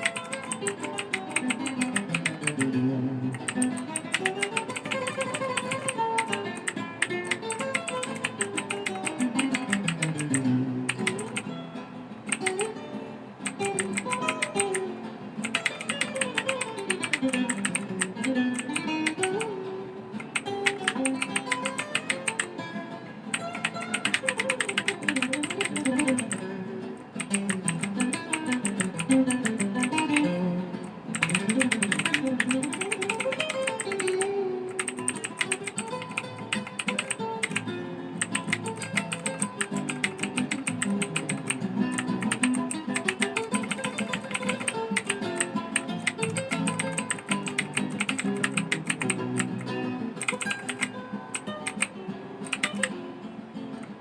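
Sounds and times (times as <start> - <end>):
mechanical keyboard typing: 0.0 - 11.5, 12.3 - 12.8, 13.4 - 19.6, 20.2 - 22.6, 23.3 - 26.5, 27.1 - 52.9
acoustic guitar music: 0.0 - 54.0.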